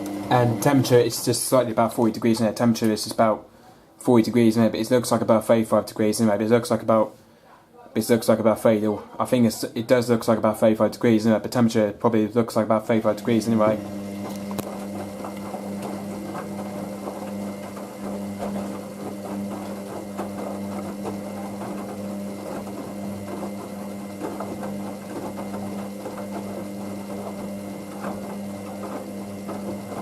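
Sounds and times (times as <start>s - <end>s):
washing machine motor hum: 0.0s - 7.2s, 8.0s - 30.0s.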